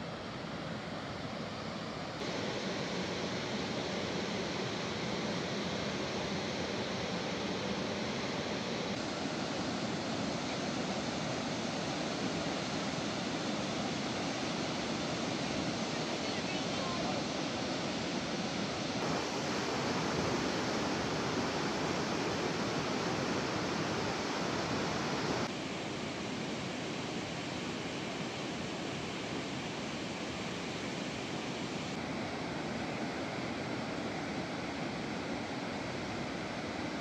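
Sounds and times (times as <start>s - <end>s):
waterfall and rapids rushing: 0.0s - 37.0s.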